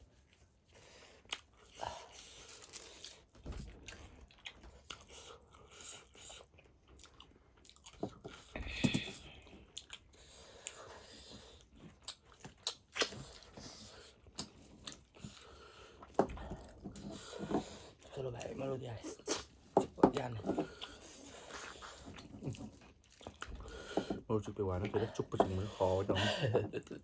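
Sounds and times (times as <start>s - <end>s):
chewing and crunching bones: 0.2s - 27.0s.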